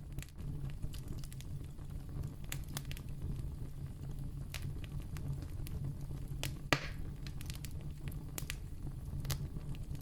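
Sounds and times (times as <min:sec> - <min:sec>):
campfire low rumble: 0:00.0 - 0:10.0
fire crackles and pops: 0:00.0 - 0:10.0.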